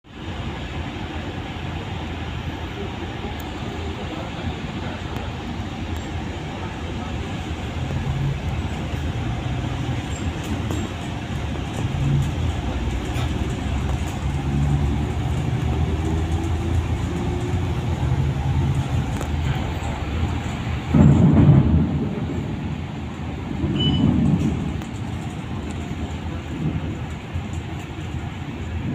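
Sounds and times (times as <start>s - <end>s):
vehicle engines rumbling: 0.0s - 28.9s.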